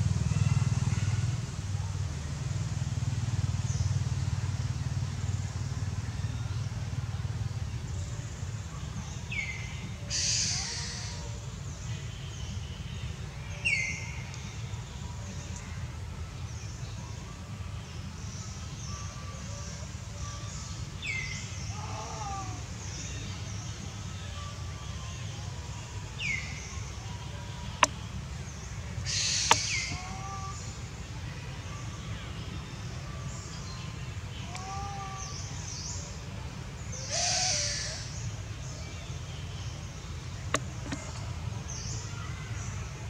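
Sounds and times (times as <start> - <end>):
low steady rumble: 0.0 - 43.0.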